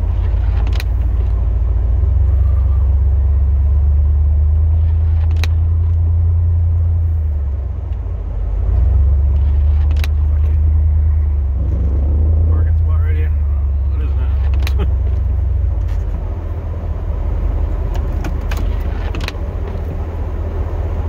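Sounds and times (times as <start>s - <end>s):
pickup truck engine rumbling: 0.0s - 21.0s.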